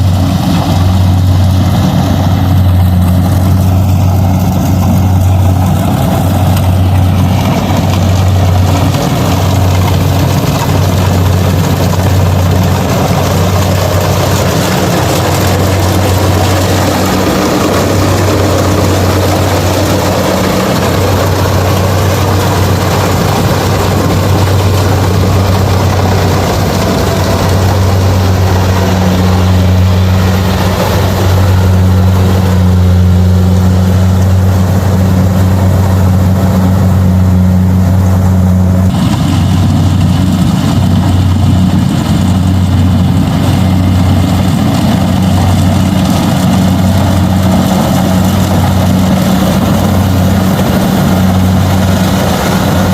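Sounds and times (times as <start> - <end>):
diesel engine drone: 0.0 - 52.9
working machinery noise: 0.0 - 52.9.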